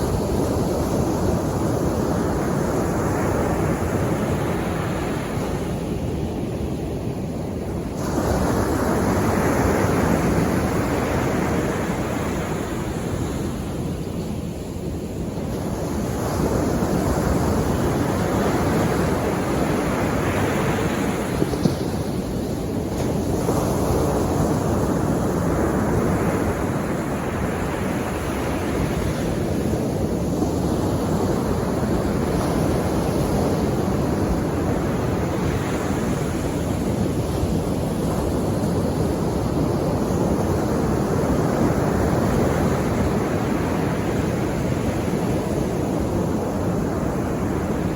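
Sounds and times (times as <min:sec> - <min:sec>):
sea waves washing ashore: 0:00.0 - 0:47.9.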